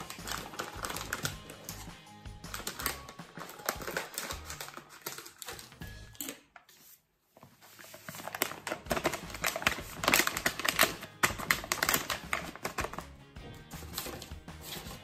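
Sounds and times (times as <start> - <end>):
paper bag crinkling and rustling: 0.0 - 1.9, 2.5 - 13.0, 13.8 - 15.0.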